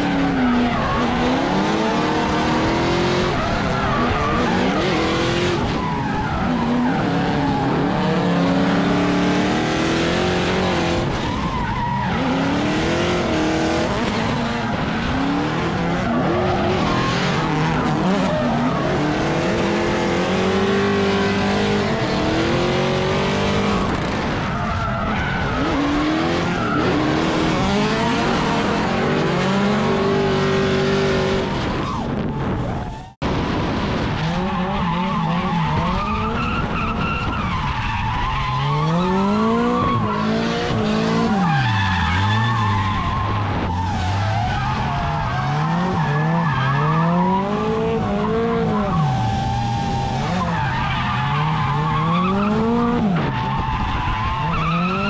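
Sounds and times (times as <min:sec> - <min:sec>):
car engines revving hard: 0:00.0 - 0:55.0.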